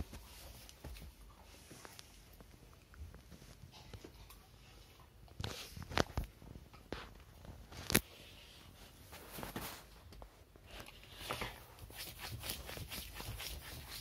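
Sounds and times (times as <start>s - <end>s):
soft rustling: 0.0s - 14.0s.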